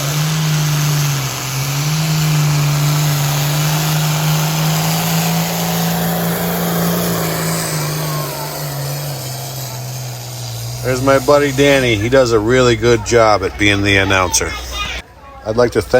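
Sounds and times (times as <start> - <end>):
tractor engine roaring at full throttle: 0.0 - 15.9.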